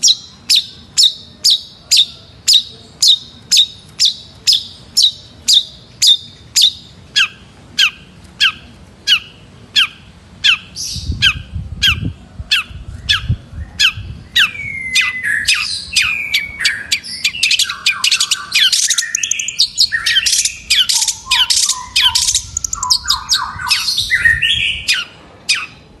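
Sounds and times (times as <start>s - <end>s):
bird harsh calls: 0.0s - 25.9s
bird song of whistles and trills: 0.0s - 25.9s.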